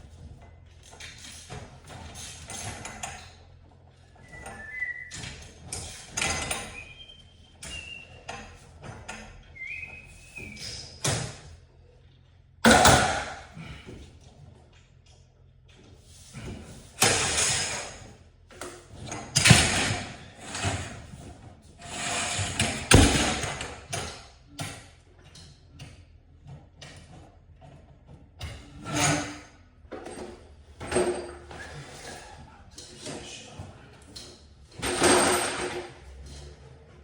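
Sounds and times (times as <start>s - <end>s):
clattering and scraping: 0.0s - 24.3s, 25.3s - 37.0s.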